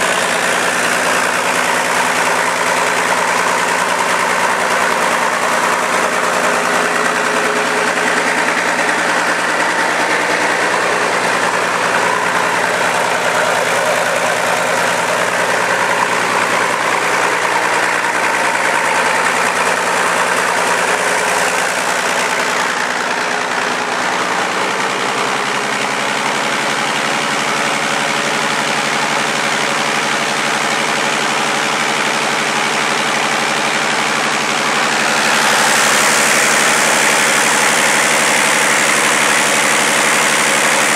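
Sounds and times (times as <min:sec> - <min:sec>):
diesel engine turning over: 0:00.0 - 0:40.9.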